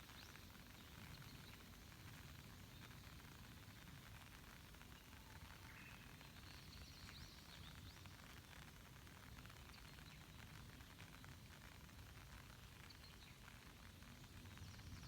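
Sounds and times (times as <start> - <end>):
rain pattering on lake: 0.0 - 15.0.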